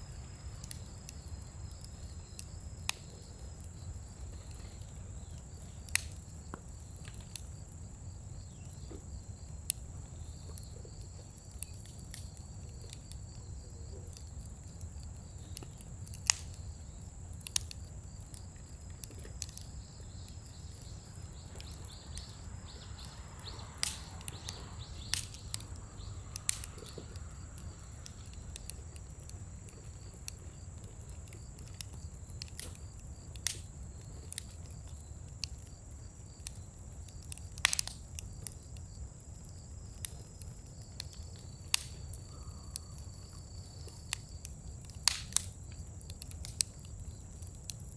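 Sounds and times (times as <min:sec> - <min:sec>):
bonfire crackling and popping: 0:00.0 - 0:47.9.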